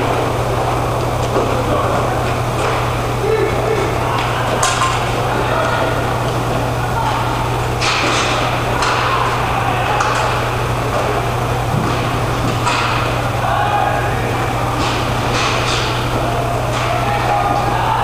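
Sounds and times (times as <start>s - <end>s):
steady low hum: 0.0s - 18.0s
sticks and puck clacking: 0.0s - 18.0s.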